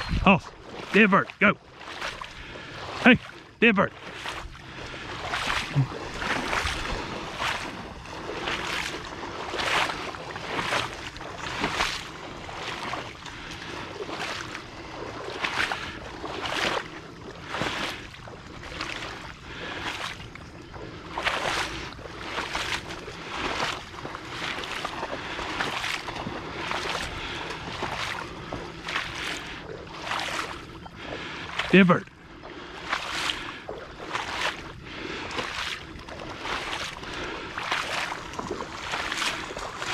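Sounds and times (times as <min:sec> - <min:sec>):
person wading through water: 0:00.0 - 0:39.9.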